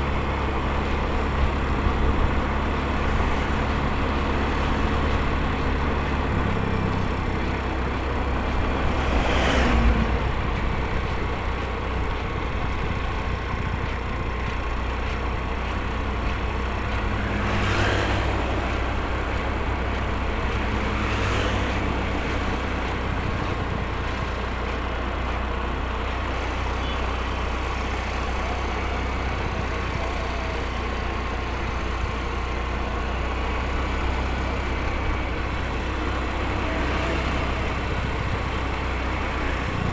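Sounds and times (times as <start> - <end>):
motorcycle engine: 0.0 - 39.9
vehicles rushing past: 0.0 - 39.9.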